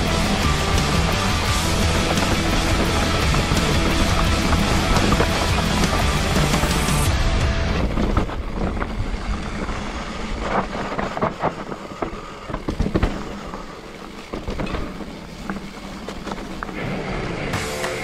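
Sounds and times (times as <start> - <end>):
bike knocking and rattling: 0.0 - 18.0
bike tyres on dirt: 0.0 - 18.0.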